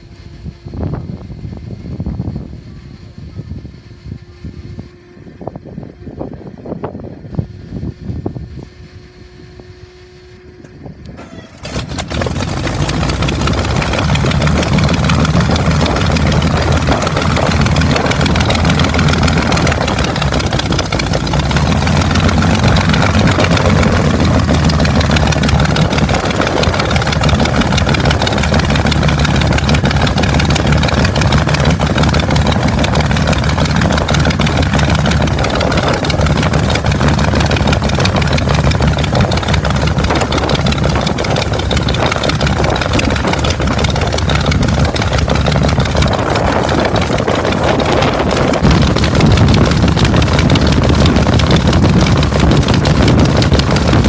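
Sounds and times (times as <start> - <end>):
aircraft engine starting and running: 0.0 - 54.0.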